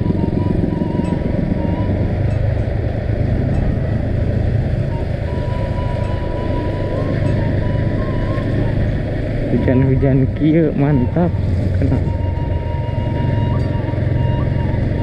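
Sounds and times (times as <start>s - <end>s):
road and wind noise: 0.0s - 15.0s
vehicle engine rumble: 0.0s - 15.0s.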